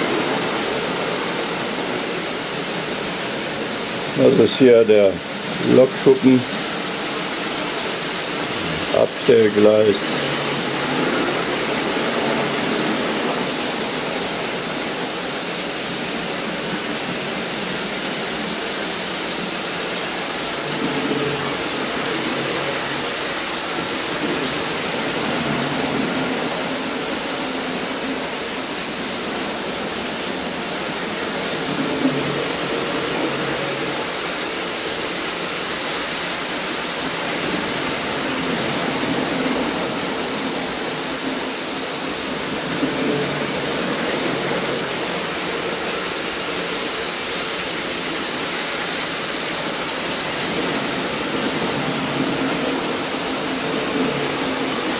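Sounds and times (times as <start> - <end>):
model trains whirring on metal track: 0.0 - 54.9.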